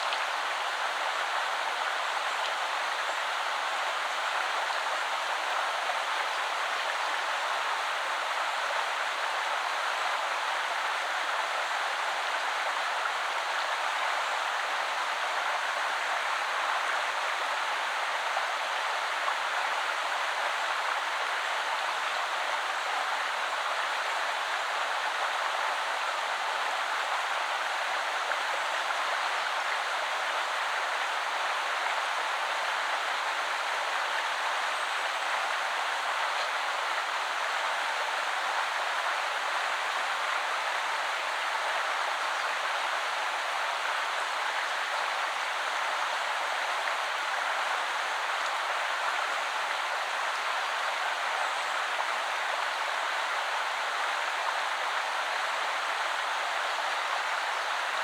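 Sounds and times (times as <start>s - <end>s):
river water flowing over stones: 0.0s - 58.0s.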